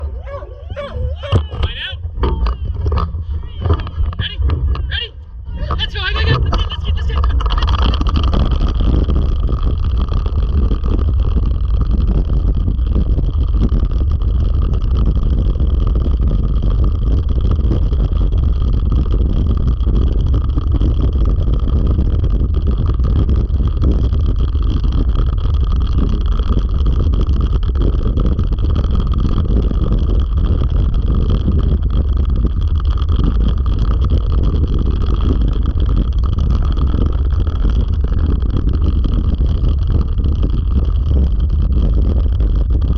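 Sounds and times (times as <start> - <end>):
rig rumbling over dirt trail: 0.0 - 42.9
wind noise on microphone: 0.0 - 42.9.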